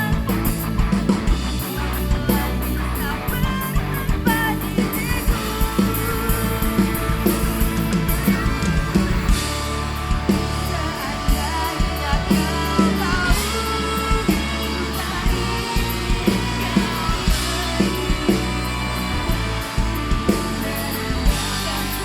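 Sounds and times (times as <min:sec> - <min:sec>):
band playing pop-rock live: 0:00.0 - 0:22.0
sliding lead guitar line: 0:00.0 - 0:22.0.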